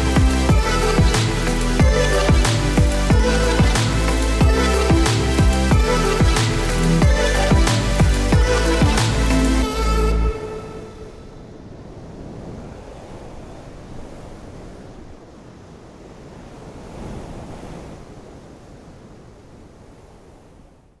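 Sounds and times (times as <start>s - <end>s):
sea surf on rocky shore: 0.0s - 20.8s.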